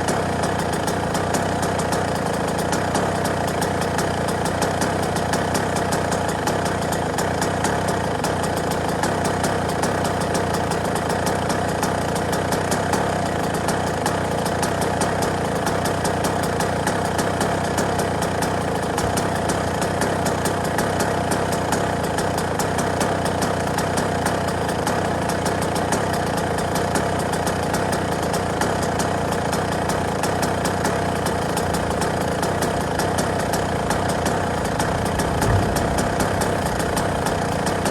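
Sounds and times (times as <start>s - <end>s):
two-stroke engine idling: 0.0s - 37.9s.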